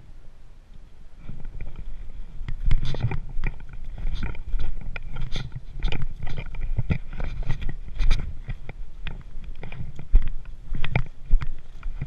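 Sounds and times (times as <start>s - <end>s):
camera handling rumble: 1.2s - 12.0s.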